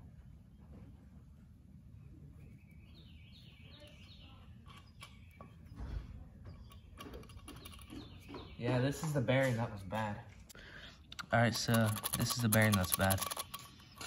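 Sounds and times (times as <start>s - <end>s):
bird chirping: 0.1s - 14.0s.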